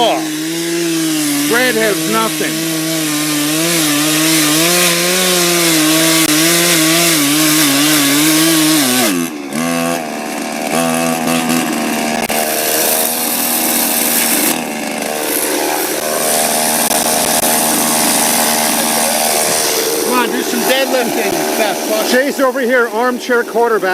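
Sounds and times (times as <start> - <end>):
chainsaw cutting a log: 0.0 - 23.9.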